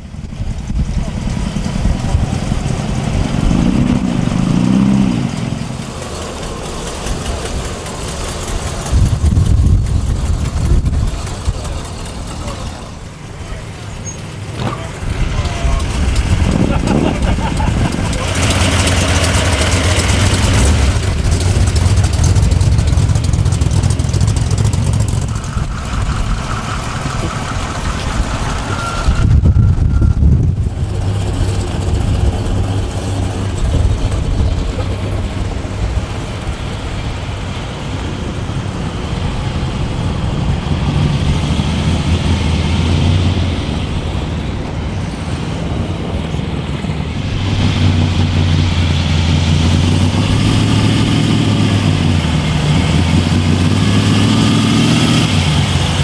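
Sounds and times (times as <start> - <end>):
car engines idling and rumbling: 0.0 - 56.0.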